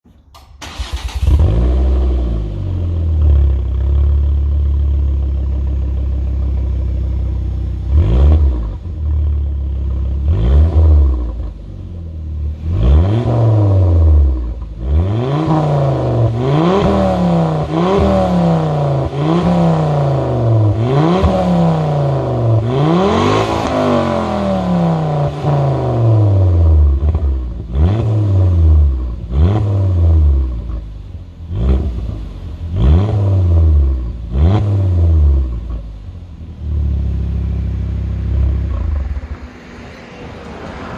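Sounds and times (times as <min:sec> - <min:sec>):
car engine idling and revving: 0:00.2 - 0:40.9.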